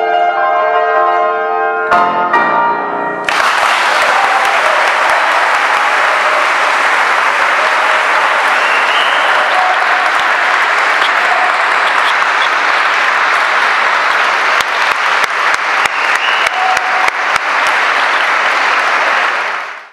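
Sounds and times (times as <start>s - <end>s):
rhythmic clapping in unison: 3.2s - 19.9s
audience applauding: 3.3s - 19.9s.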